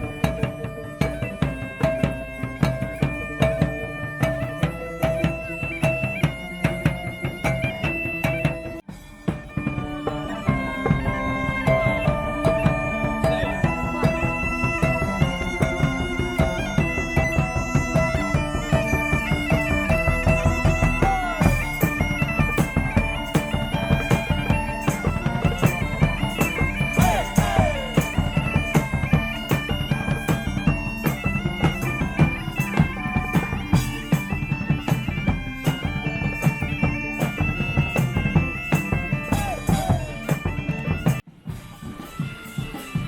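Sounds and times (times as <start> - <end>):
bagpipe melody over drone: 0.0 - 43.0
drum beat: 0.0 - 43.0.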